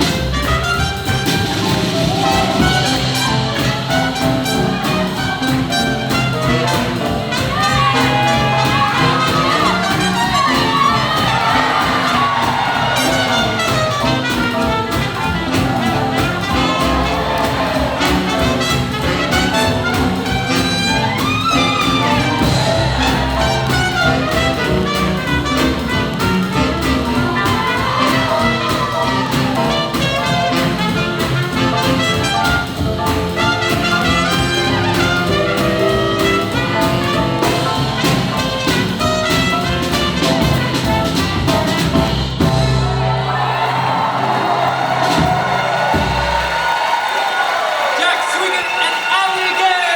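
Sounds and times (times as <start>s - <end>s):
big-band swing jazz: 0.0s - 49.9s.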